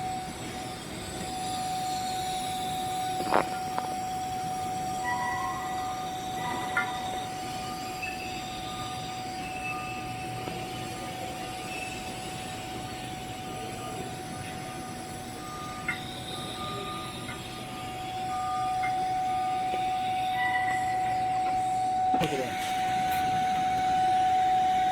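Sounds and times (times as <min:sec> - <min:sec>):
welding arc hissing and whining: 0:00.0 - 0:24.9.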